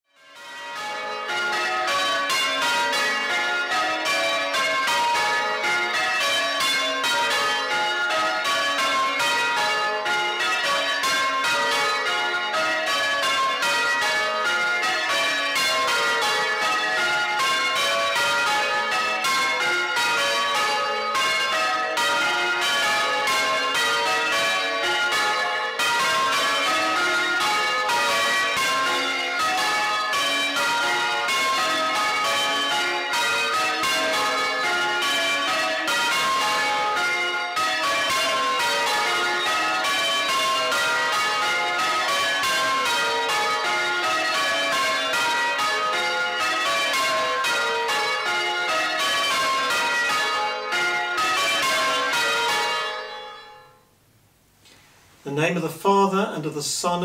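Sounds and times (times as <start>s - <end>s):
church bells ringing: 0.1s - 53.9s, 55.2s - 57.0s.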